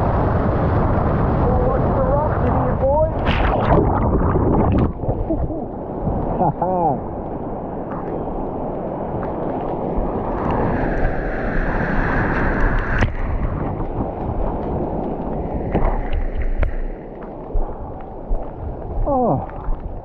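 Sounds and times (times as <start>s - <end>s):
wind buffeting microphone: 0.0s - 20.0s
water sloshing and splashing: 3.1s - 6.4s, 7.2s - 20.0s.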